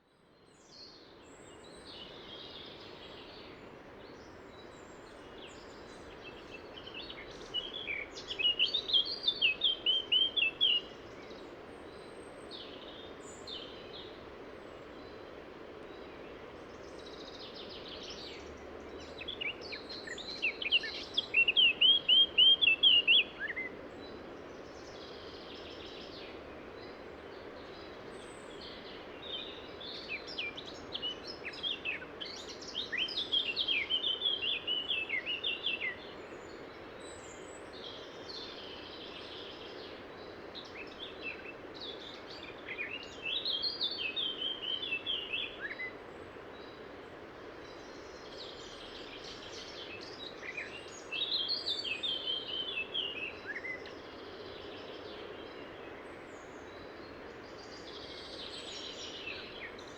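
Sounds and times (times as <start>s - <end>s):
songbird singing: 0.0s - 14.3s, 14.9s - 59.9s.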